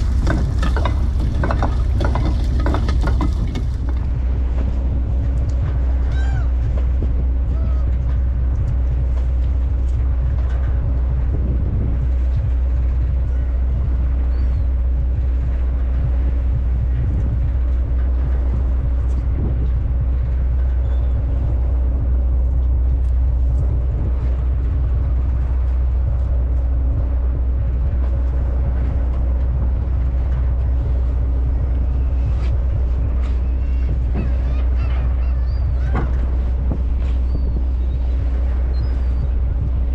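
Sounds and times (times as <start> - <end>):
diesel engine droning: 0.0 - 39.9
steady hum: 0.0 - 39.9.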